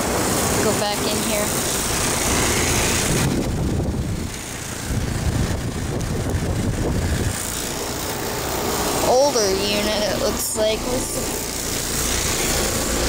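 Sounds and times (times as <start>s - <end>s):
air conditioner unit rumbling: 0.0s - 13.0s.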